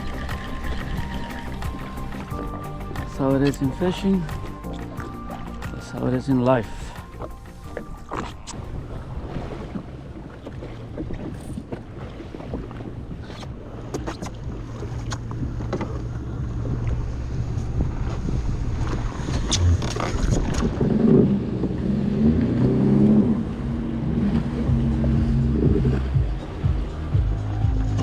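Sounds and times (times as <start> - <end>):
motorboat engines rumbling: 0.0 - 28.0.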